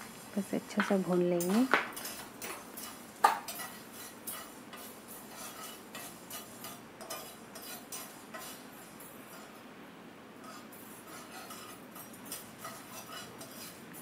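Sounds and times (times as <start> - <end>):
spoon scraping frying pan: 0.8 - 9.6, 10.4 - 14.0.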